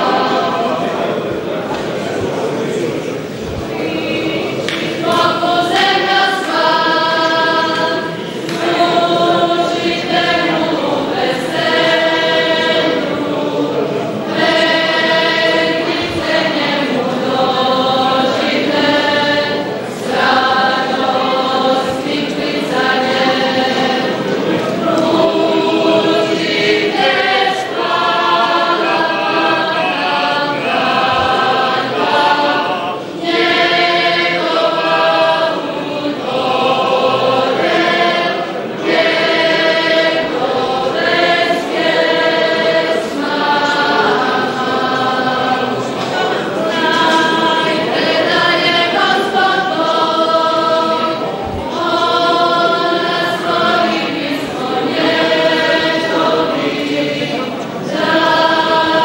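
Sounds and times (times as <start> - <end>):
choir singing slow chant: 0.0 - 59.0.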